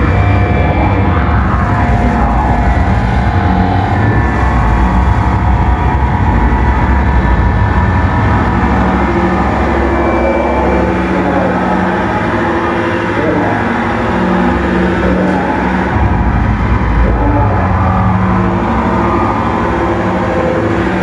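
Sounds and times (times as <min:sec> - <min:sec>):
distorted harsh noise music: 0:00.0 - 0:21.0
heavy low rumble: 0:00.0 - 0:21.0
steady whining tones: 0:00.0 - 0:21.0.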